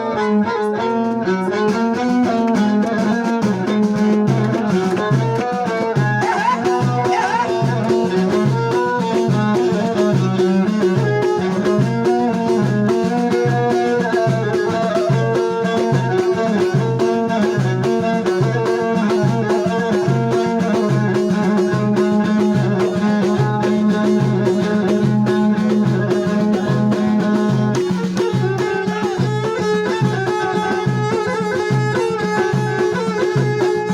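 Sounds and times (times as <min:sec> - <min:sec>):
folk melody: 0:00.0 - 0:33.9
steady drum beat: 0:01.8 - 0:33.9.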